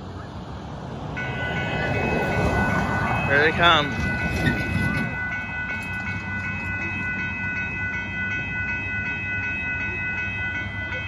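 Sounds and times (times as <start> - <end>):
railroad crossing bells clanging: 0.0 - 11.0
vehicle rumble: 0.0 - 11.0.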